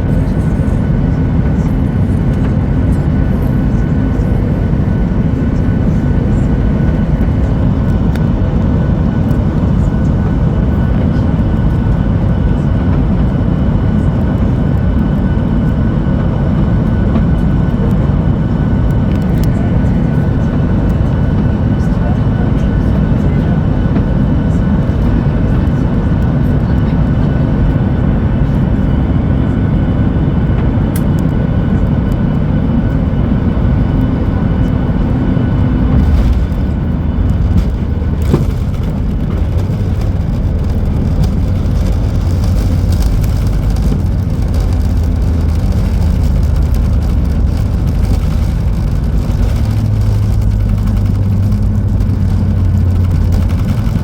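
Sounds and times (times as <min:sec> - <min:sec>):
airplane engines rumbling in cabin: 0:00.0 - 0:54.0.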